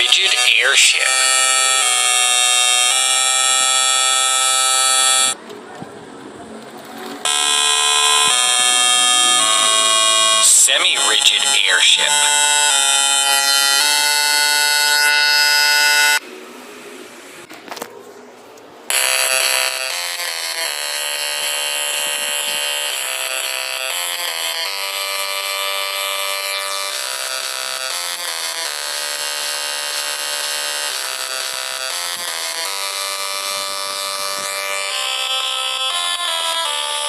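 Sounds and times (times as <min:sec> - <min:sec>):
electric buzzing drone: 0:01.0 - 0:05.4, 0:07.3 - 0:10.5, 0:11.1 - 0:16.2, 0:18.9 - 0:37.0.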